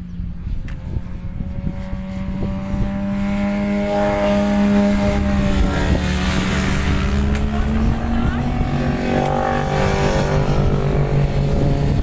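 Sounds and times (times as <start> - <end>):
racing motorcycle passing: 0.0 - 12.0
wind buffeting microphone: 0.0 - 12.0.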